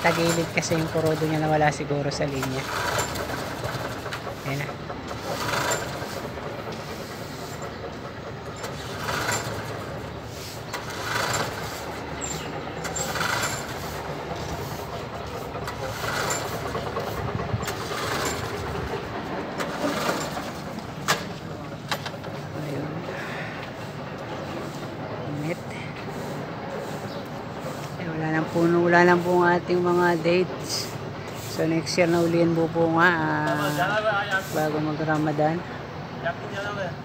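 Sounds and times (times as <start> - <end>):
lawnmower engine running: 0.0 - 34.8.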